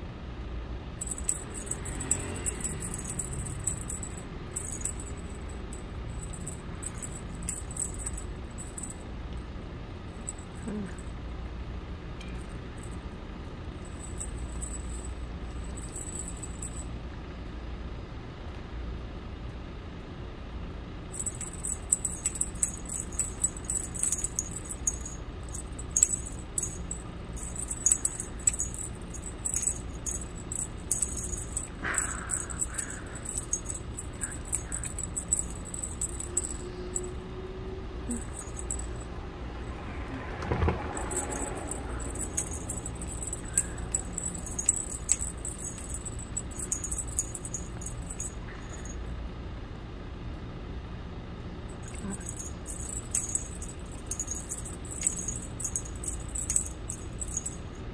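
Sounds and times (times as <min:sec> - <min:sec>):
cat toy jingling and rattling: 0:01.0 - 0:11.2, 0:12.2 - 0:17.0, 0:21.0 - 0:39.8, 0:40.4 - 0:49.0, 0:51.7 - 0:57.8.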